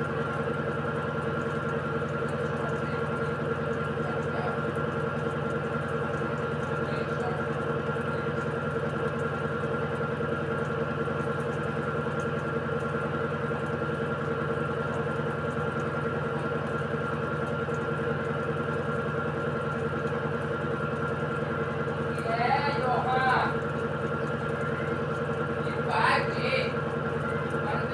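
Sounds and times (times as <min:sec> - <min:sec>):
washing machine spinning: 0:00.0 - 0:27.9.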